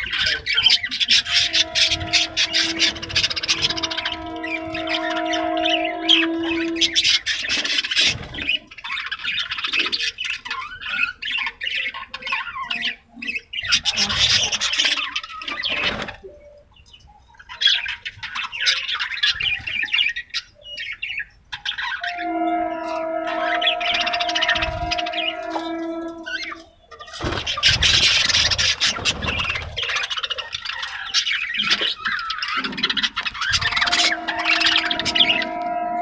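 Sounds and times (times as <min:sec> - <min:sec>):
budgerigars chattering and chirping: 0:00.0 - 0:35.8.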